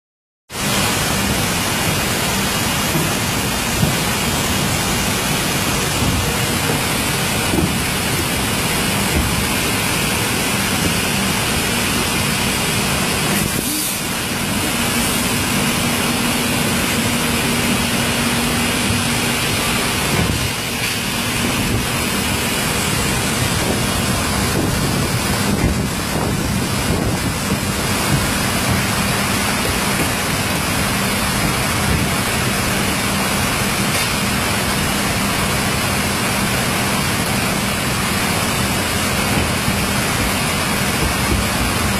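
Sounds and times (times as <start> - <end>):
machine belts and rollers running: 0.5 - 41.9.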